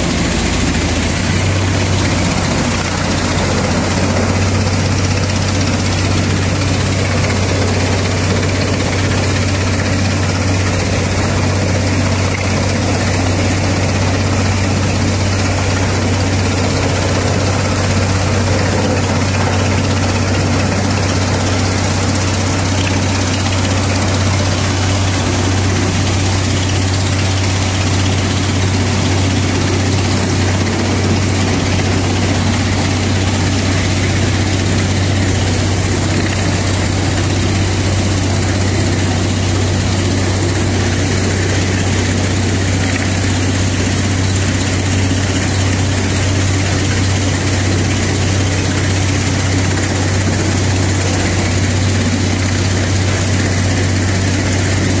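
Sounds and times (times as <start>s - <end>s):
wood chipper running: 0.0s - 55.0s.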